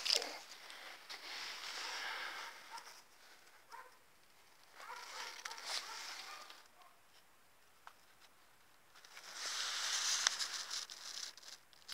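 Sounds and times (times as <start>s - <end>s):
rustling crinkling handling noise: 0.0s - 7.3s, 8.0s - 11.9s.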